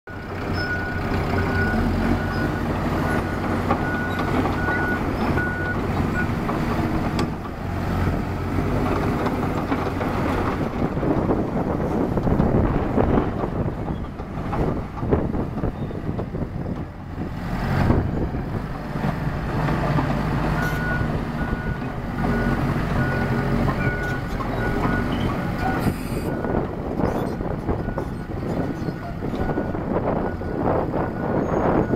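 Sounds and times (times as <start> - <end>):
dozer diesel engine running: 0.1 - 31.9.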